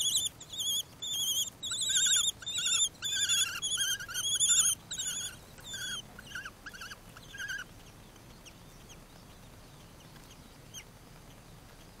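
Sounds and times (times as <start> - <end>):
kestrels calling: 0.0 - 12.0.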